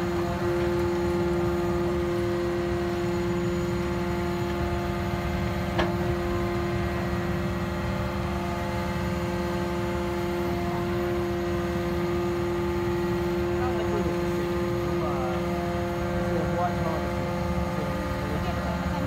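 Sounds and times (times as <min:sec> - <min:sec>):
engine humming with whine: 0:00.0 - 0:19.0.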